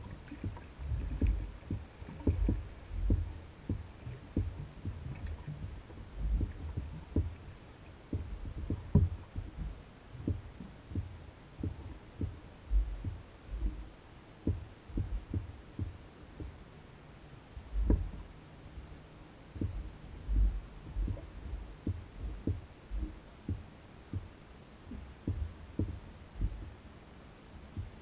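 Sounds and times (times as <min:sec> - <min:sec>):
waves lapping against canoe hull: 0:00.0 - 0:26.9.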